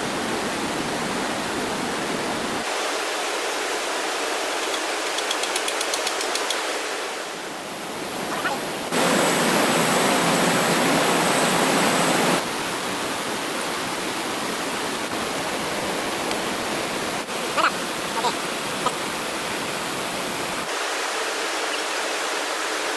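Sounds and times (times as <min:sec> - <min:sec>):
rushing stream water: 0:00.0 - 0:22.9.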